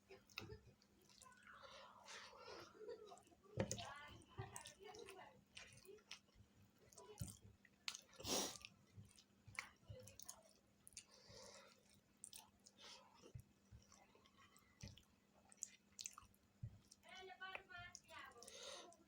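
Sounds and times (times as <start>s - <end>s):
wet chewing and mouth smacking: 0.0s - 19.0s.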